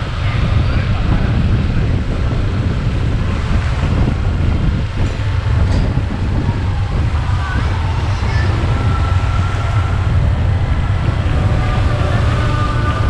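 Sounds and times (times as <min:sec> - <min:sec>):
motorbike engine rumble: 0:00.0 - 0:13.0
wind buffeting microphone: 0:00.0 - 0:13.0.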